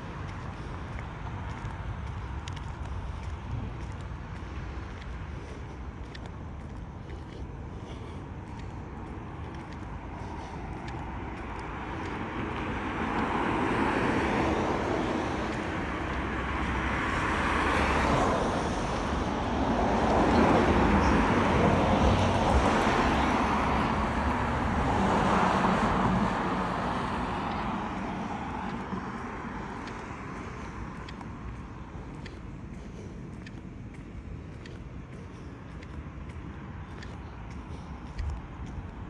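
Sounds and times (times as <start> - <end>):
low traffic rumble: 0.0 - 39.0
vehicles passing: 0.0 - 39.0.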